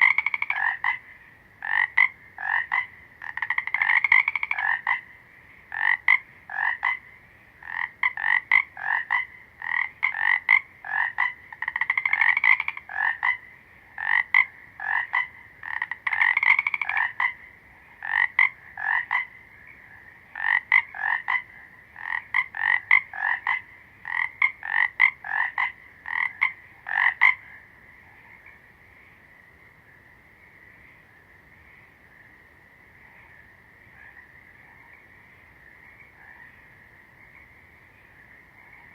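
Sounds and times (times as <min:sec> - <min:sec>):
frog croaking: 0:00.0 - 0:38.9.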